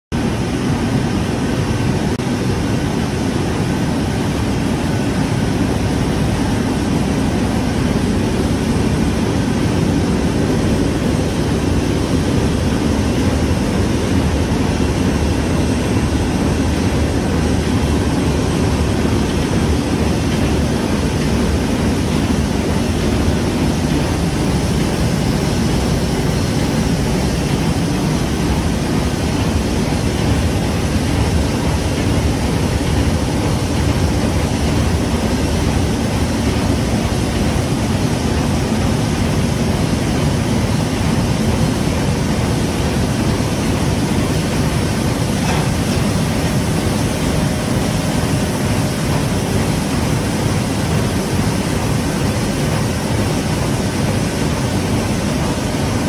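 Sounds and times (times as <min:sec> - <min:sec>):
deep machinery noise: 0:00.2 - 0:56.0.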